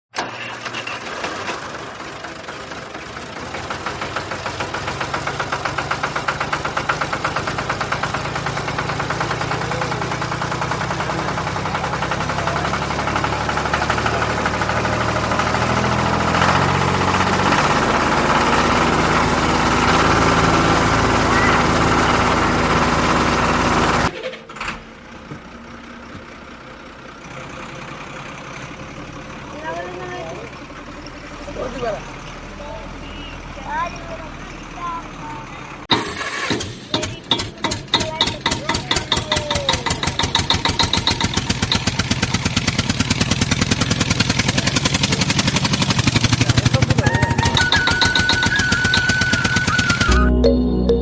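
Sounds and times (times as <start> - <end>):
tractor engine running: 0.1 - 51.0.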